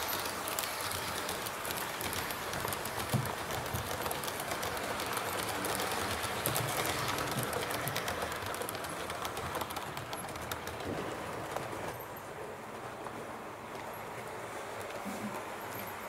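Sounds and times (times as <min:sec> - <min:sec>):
model train coaches rumbling: 0:00.0 - 0:16.0
wheels clicking over rail joints: 0:00.0 - 0:16.0.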